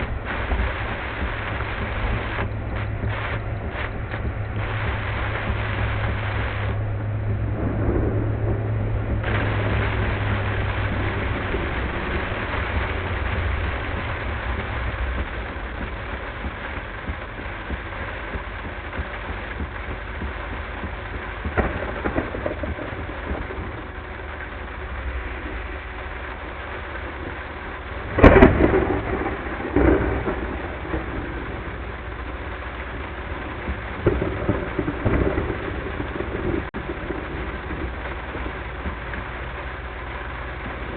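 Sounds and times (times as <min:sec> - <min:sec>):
car road noise: 0:00.0 - 0:40.9
heavy rain: 0:00.0 - 0:40.9
loud thunderclap: 0:00.0 - 0:40.9
thunder rumbling: 0:00.0 - 0:40.9.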